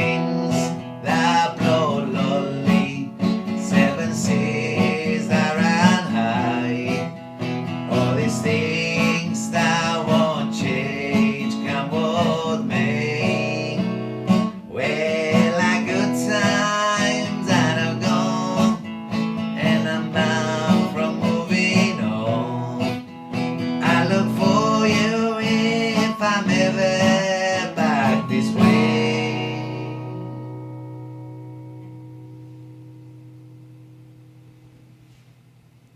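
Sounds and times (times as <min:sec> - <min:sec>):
acoustic guitar strumming: 0:00.0 - 0:35.8.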